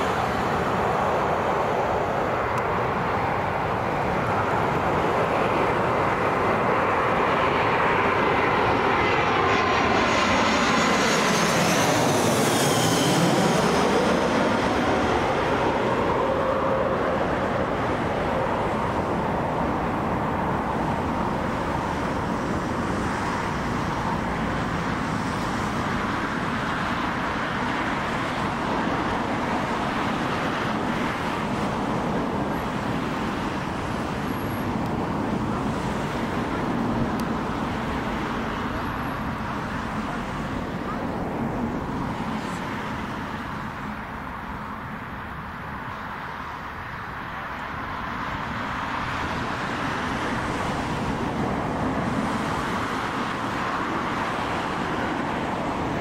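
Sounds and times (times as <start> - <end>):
jet engines passing overhead: 0.0 - 56.0.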